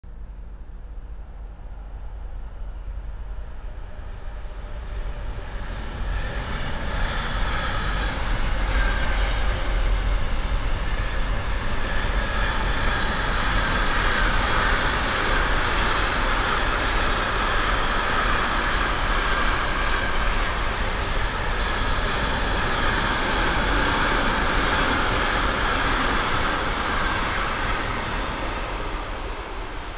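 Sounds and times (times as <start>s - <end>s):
freight train wheels rolling on rails: 0.6s - 29.9s.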